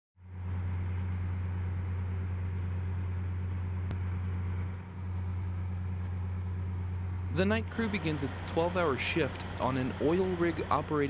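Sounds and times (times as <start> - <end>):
drilling rig machinery droning: 0.2 - 11.0.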